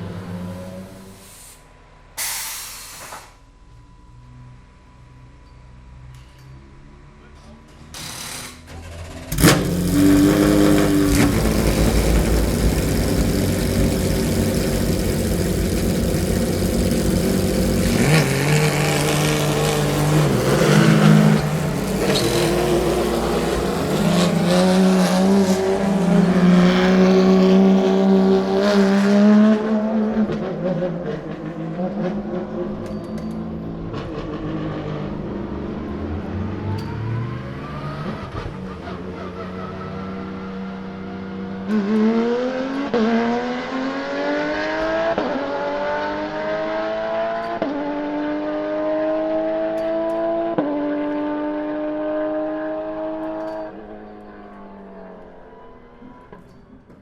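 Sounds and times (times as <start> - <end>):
racing car engine revving: 7.9 - 56.5.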